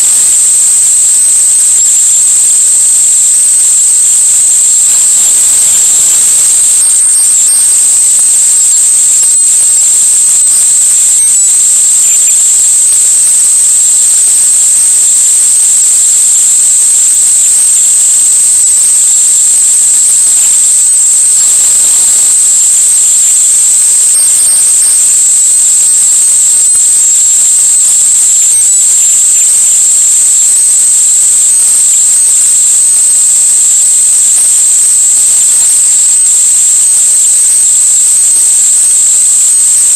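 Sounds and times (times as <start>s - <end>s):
high-pitched electronic whine: 0.0s - 39.9s.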